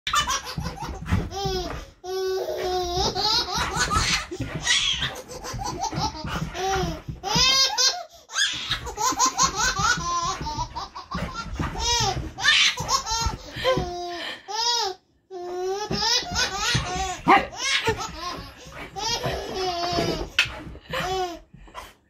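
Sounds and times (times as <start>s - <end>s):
baby laughing: 0.1s - 21.6s.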